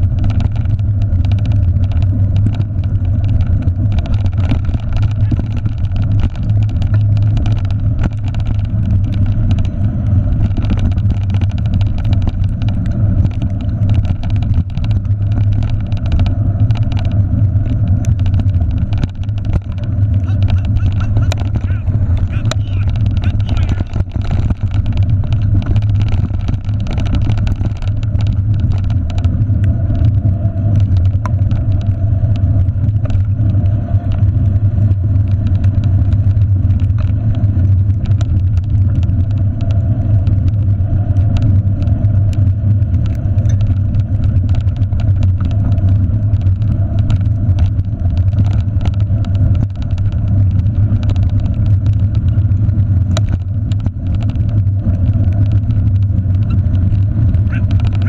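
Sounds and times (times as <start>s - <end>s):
bicycle ticks and knocks on bumps: 0.0s - 58.0s
wind and ride vibration rumble: 0.0s - 58.0s.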